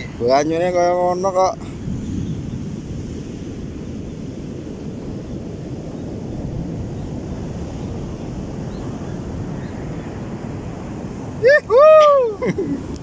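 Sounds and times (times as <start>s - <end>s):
surf breaking on beach: 0.0s - 13.0s
wind on microphone: 0.0s - 13.0s.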